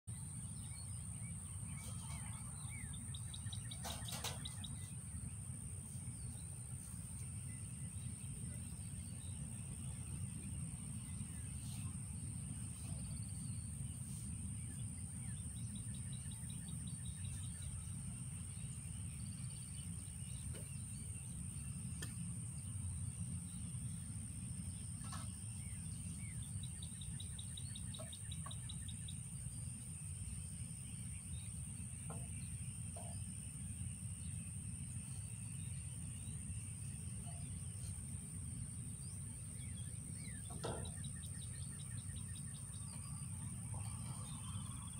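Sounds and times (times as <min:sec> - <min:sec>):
bird chirps: 0:00.1 - 0:23.7, 0:24.7 - 0:44.9.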